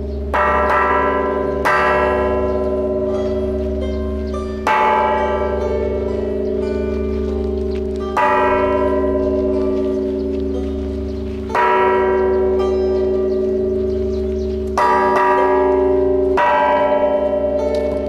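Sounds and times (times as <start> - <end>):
large temple bell ringing: 0.0 - 18.0.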